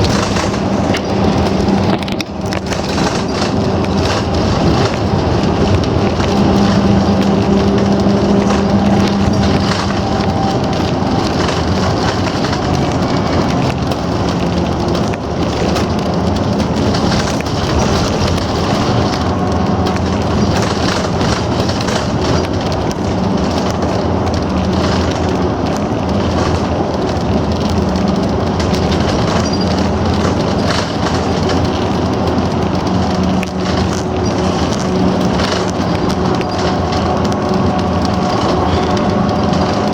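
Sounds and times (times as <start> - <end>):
bus engine hum: 0.0 - 39.9
tyre and road noise: 0.0 - 39.9.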